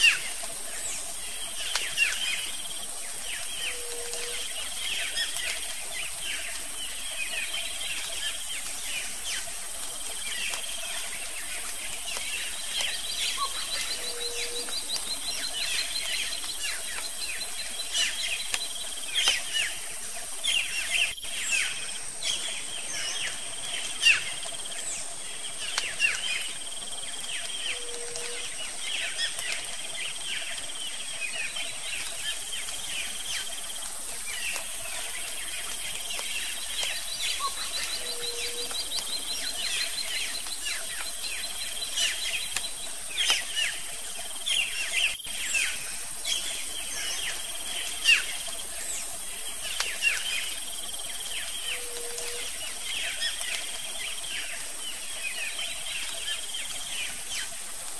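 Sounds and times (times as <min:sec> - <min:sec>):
birds chirping: 0:00.0 - 0:57.6
high insect drone: 0:00.0 - 0:57.9.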